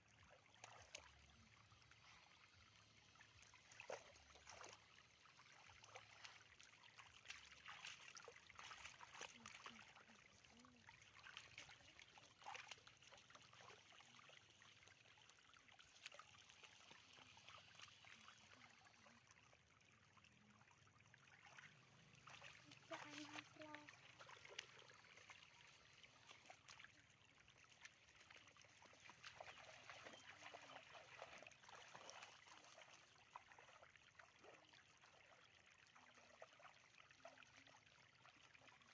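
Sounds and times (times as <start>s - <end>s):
shallow water splashing and trickling: 0.0s - 38.9s.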